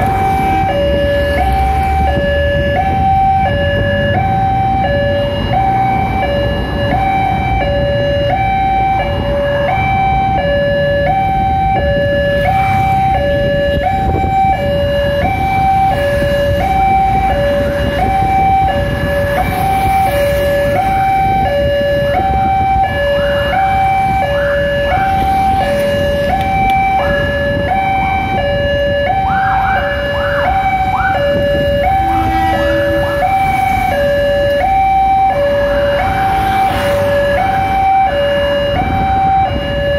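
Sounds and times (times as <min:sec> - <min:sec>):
level crossing two-tone alarm: 0:00.0 - 0:39.9
road traffic: 0:00.0 - 0:39.9.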